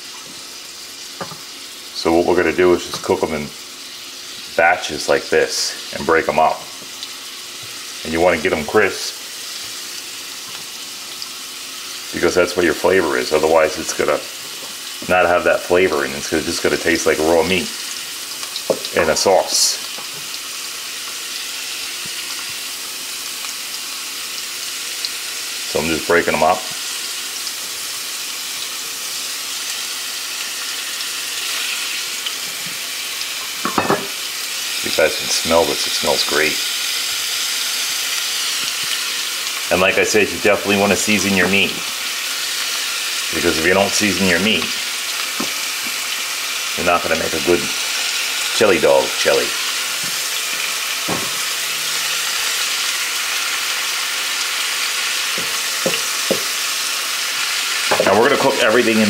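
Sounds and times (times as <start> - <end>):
meat sizzling in a pan: 0.0 - 59.0.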